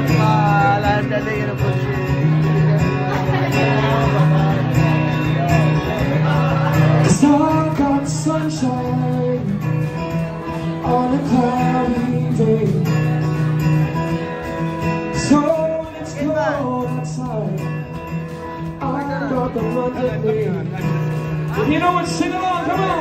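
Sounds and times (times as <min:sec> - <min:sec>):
man singing: 0:00.0 - 0:13.6, 0:15.0 - 0:23.0
acoustic guitar strumming: 0:00.0 - 0:23.0.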